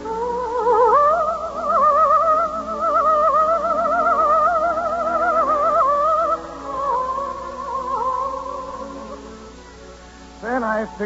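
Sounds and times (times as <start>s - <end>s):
high sustained orchestral melody: 0.0s - 11.0s
soft orchestral accompaniment: 0.0s - 11.0s.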